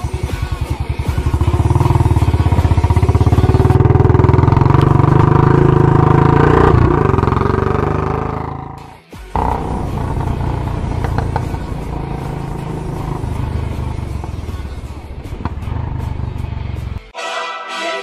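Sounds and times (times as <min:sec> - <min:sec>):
motorcycle-like engine running: 0:00.0 - 0:17.1.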